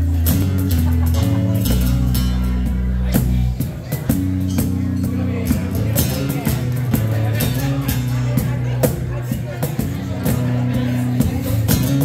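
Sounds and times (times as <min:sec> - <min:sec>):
acoustic guitar: 0:00.0 - 0:12.0
electric bass guitar: 0:00.0 - 0:12.0.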